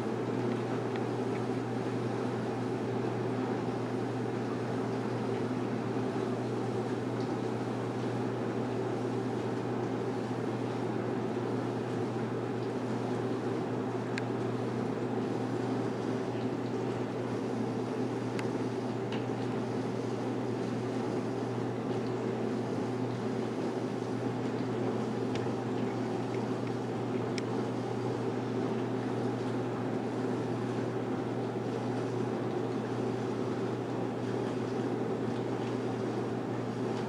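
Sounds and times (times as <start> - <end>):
aquarium pump humming: 0.0 - 37.0.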